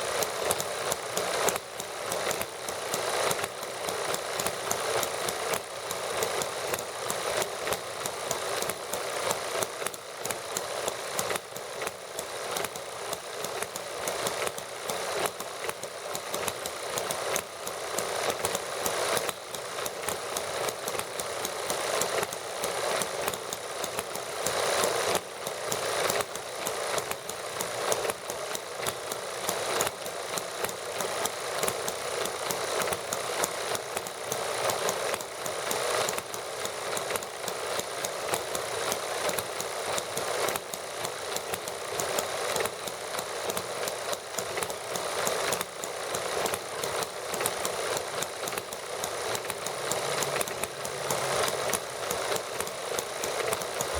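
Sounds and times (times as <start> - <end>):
model gasoline engines running: 0.0 - 53.9.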